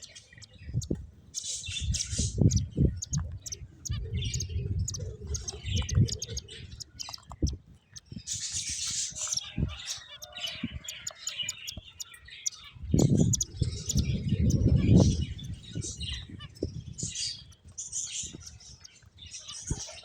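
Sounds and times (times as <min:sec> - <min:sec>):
finches chirping: 0:00.0 - 0:20.0.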